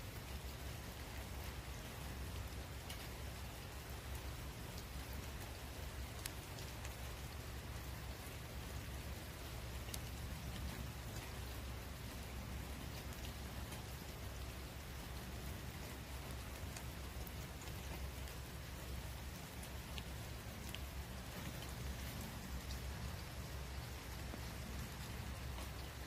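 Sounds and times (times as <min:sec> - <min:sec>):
outdoor hiss: 0:00.0 - 0:26.0
faint light ticks: 0:00.2 - 0:26.0.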